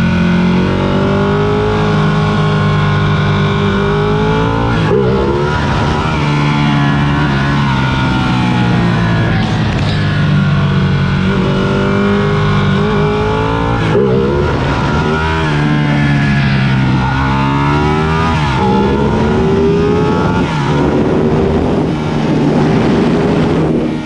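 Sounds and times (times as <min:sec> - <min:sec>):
motorcycle engine accelerating: 0:00.0 - 0:24.0
wind noise: 0:00.0 - 0:24.0.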